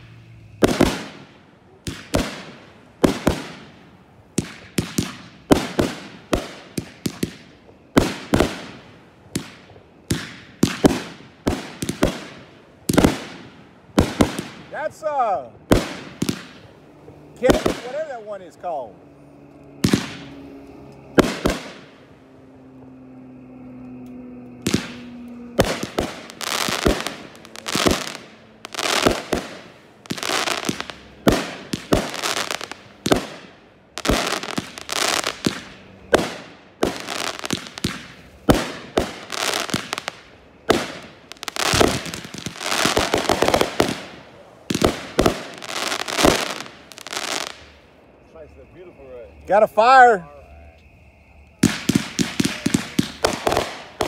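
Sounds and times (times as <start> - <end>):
fireworks bangs: 0.0 - 18.9, 19.7 - 22.2, 22.8 - 47.9, 51.6 - 54.0.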